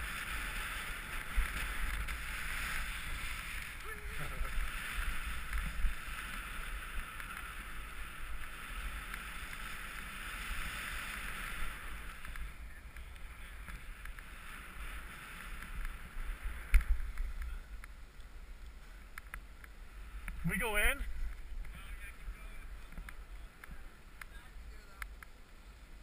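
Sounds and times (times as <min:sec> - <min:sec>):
skis sliding over snow: 0:00.0 - 0:26.0
wind rumbling on microphone: 0:00.0 - 0:26.0.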